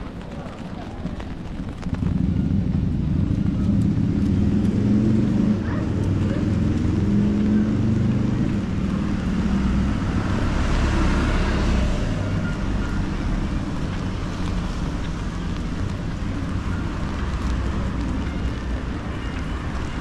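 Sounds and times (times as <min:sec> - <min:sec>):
wind rumble on microphone: 0:00.0 - 0:20.0
tyres hissing on wet asphalt: 0:03.8 - 0:20.0.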